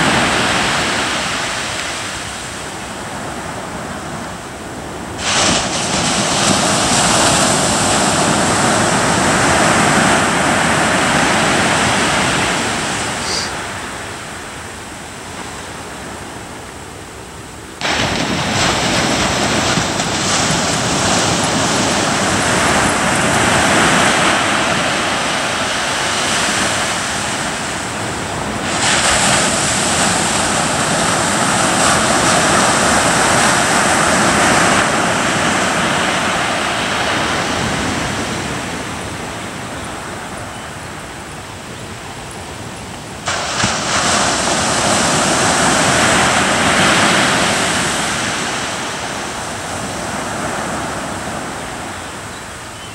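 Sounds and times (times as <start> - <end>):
ocean surf breaking: 0.0 - 52.9.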